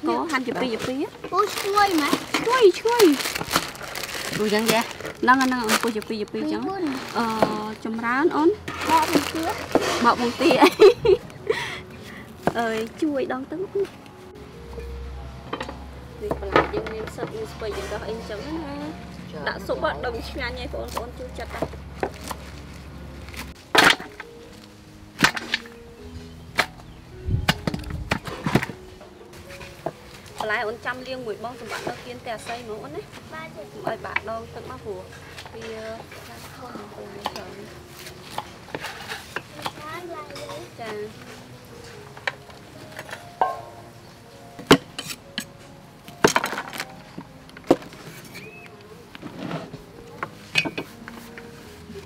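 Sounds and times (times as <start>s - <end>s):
soft background music: 0.0s - 52.0s.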